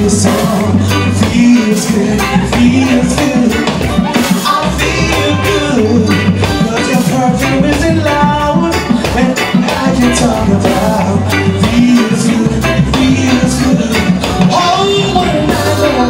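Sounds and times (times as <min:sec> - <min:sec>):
live reggae band playing: 0:00.0 - 0:16.0.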